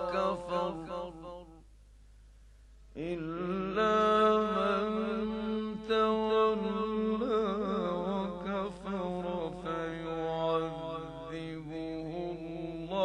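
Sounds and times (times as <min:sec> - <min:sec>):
man reciting melodically: 0:00.0 - 0:01.6, 0:02.9 - 0:13.0.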